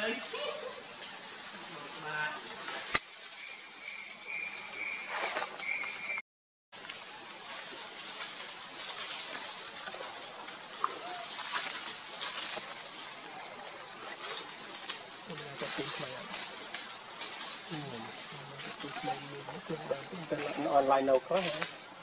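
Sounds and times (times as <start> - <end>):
insects buzzing: 0.0 - 6.2, 6.8 - 22.0.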